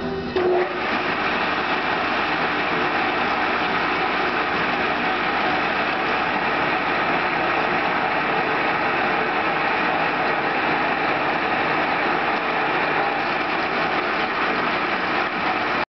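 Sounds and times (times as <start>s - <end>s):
lathe gearing whirring: 0.0s - 15.9s.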